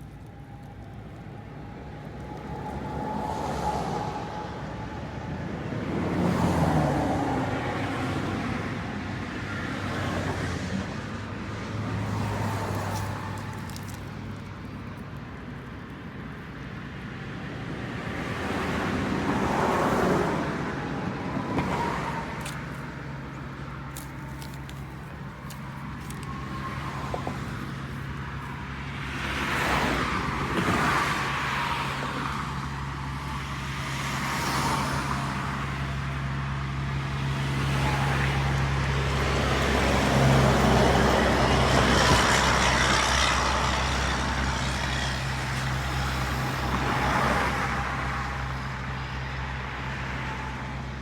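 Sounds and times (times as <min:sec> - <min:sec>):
vehicles passing: 0:00.0 - 0:51.0.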